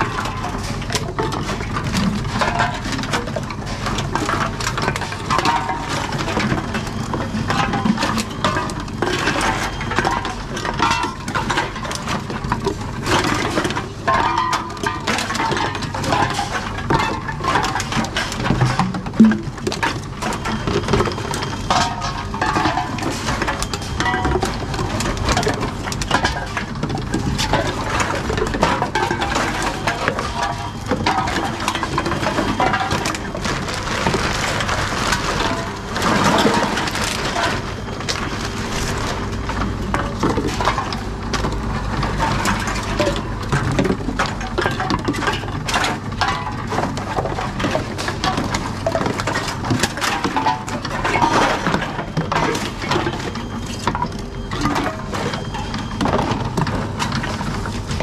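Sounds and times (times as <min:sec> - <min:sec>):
cans and bottles clattering: 0:00.0 - 0:58.0.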